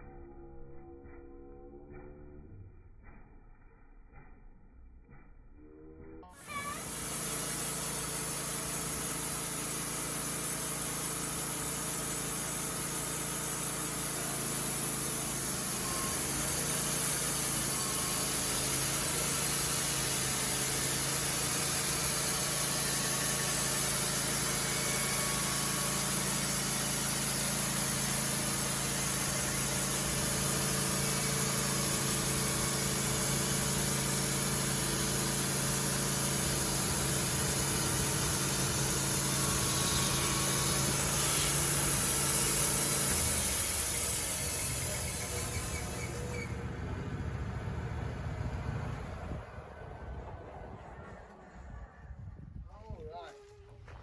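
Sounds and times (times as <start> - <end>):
sawmill engine running: 6.3 - 51.4.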